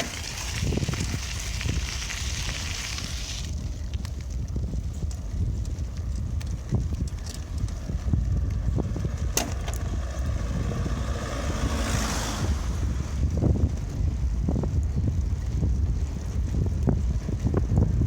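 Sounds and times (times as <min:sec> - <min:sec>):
bicycle clicks and rattles: 0:00.0 - 0:10.6, 0:13.2 - 0:18.0
wind buffeting microphone: 0:00.0 - 0:18.0.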